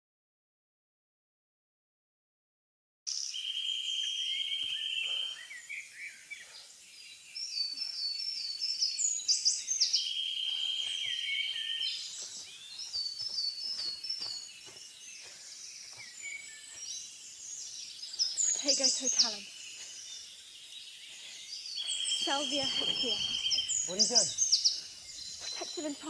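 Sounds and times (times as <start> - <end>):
faint outdoor background noise: 3.1 - 26.0
high bird chirps: 3.1 - 26.0.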